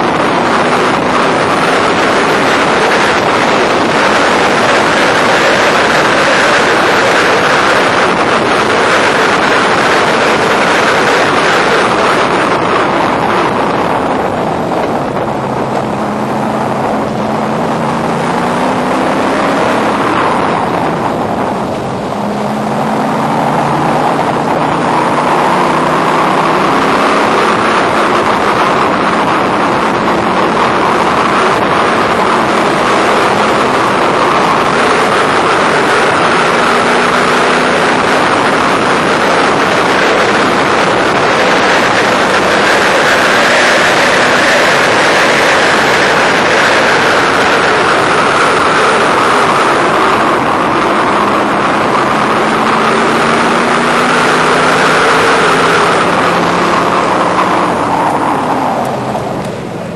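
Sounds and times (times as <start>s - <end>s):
race car engine running hard: 0.0s - 59.9s
wind rush on microphone: 0.0s - 59.9s.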